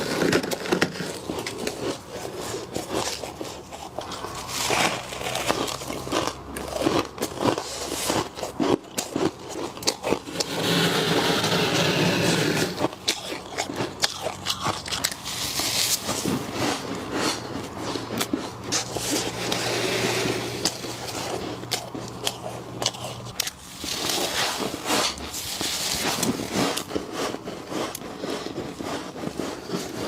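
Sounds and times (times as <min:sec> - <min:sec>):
frost crunching while chewed: 0:00.0 - 0:30.0.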